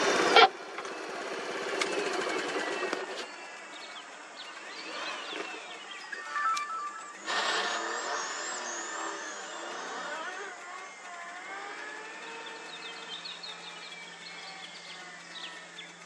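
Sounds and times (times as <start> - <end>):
van engine revving: 0.0 - 6.2, 6.9 - 16.0
birds chirping: 2.0 - 16.0.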